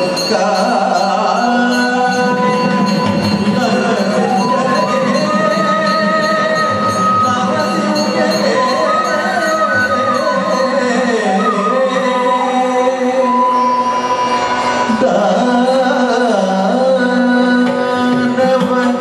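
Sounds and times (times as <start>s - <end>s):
person singing ornamented melody: 0.0s - 19.0s.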